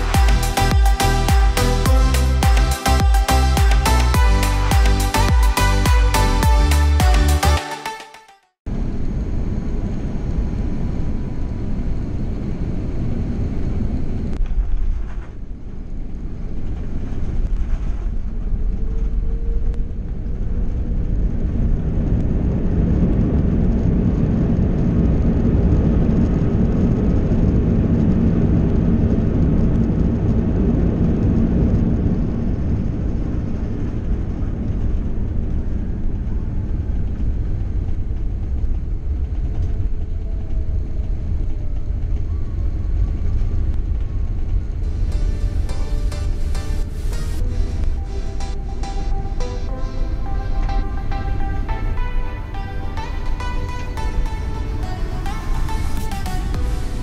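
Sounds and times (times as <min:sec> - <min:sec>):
aircraft cabin engine rumble: 0:08.7 - 0:57.0.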